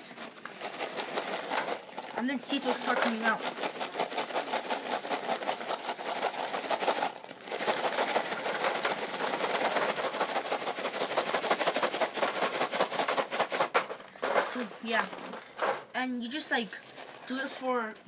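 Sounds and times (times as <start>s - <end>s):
popcorn rattling in paper bag: 0.0s - 18.0s.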